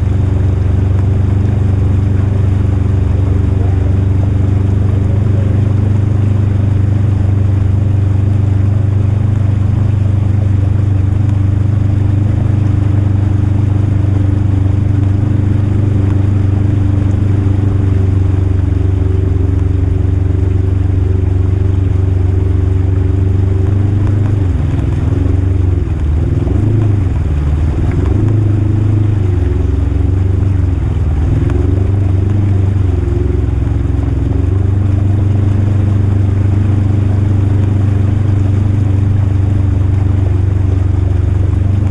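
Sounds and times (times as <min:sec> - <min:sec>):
off-road vehicle engine running: 0:00.0 - 0:41.9.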